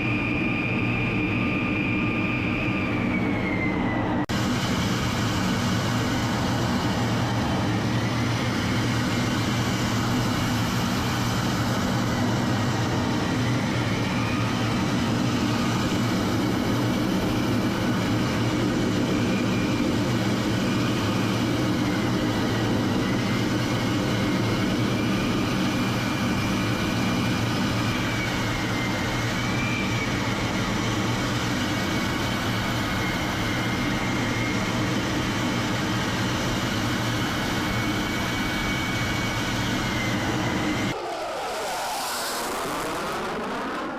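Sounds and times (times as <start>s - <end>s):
faint high engine whine: 0.0s - 43.9s
jet engine rumbling: 0.0s - 43.9s.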